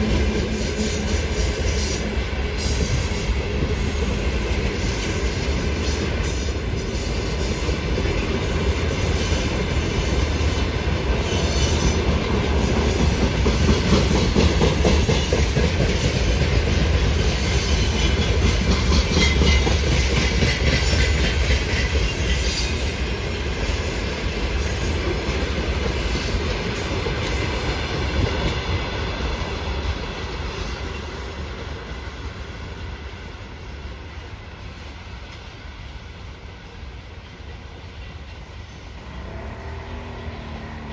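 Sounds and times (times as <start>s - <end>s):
low train rumble: 0.0s - 40.9s
train wheels clattering on rails: 0.0s - 40.9s.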